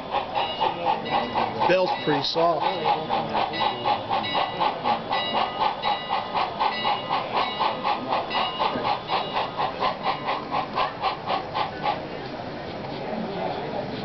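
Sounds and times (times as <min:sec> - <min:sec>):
model train steam chuffs: 0:00.0 - 0:14.0.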